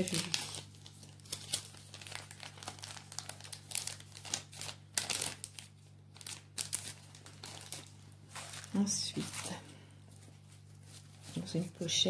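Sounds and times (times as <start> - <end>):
gift wrapping crinkling: 0.0 - 12.0.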